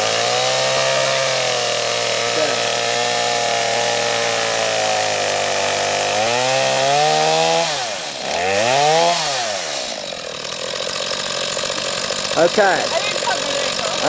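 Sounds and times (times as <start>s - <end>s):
chainsaw cutting log: 0.0s - 14.0s.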